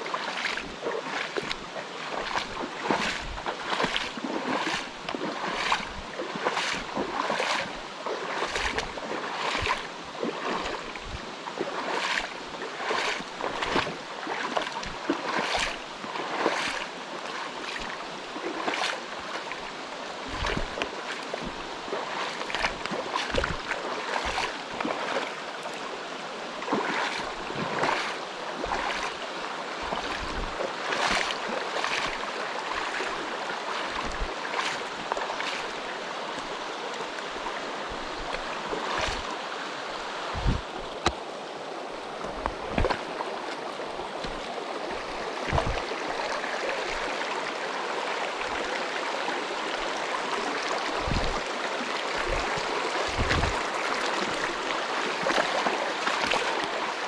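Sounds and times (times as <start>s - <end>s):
stream rushing over rocks: 0.0s - 57.0s
water splashes: 0.0s - 57.0s.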